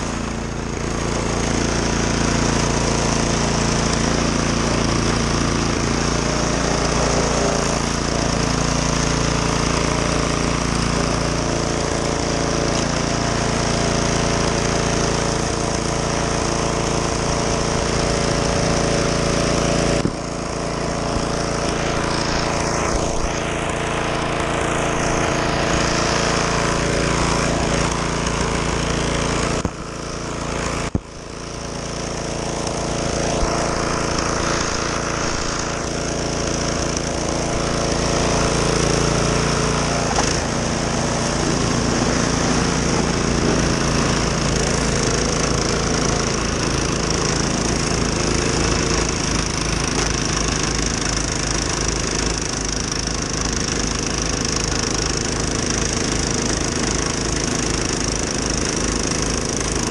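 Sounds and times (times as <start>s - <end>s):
auger throwing snow: 0.0s - 59.9s
snowblower engine running: 0.0s - 59.9s.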